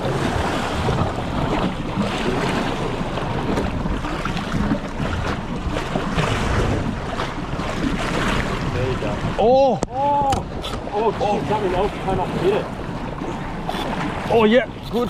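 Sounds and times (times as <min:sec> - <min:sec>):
water washing against boat hull: 0:00.0 - 0:15.0.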